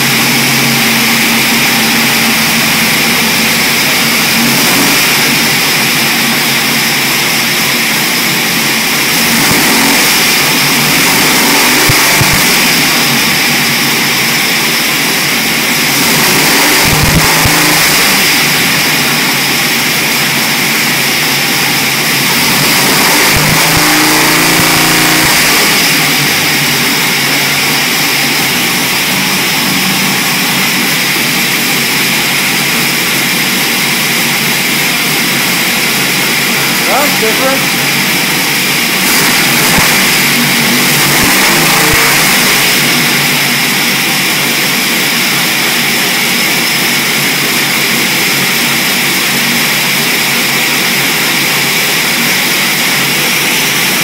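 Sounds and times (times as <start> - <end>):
engine running near idle: 0.0 - 54.0.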